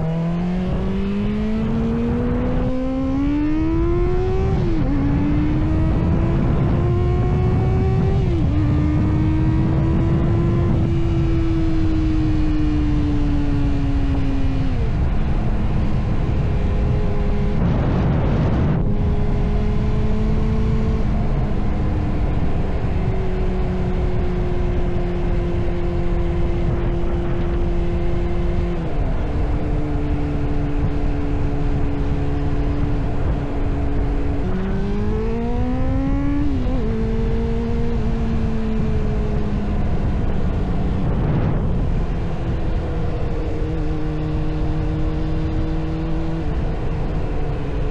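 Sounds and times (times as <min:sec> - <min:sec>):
motorcycle engine shifting gears: 0:00.0 - 0:47.9
wind and road noise: 0:00.0 - 0:47.9.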